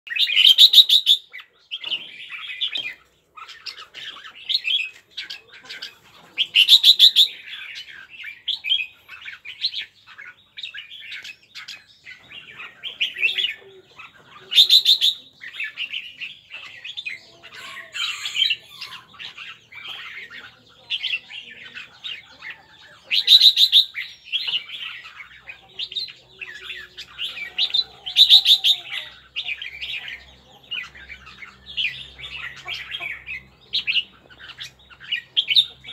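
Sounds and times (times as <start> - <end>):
bird chirping and chattering: 0.1 - 35.9.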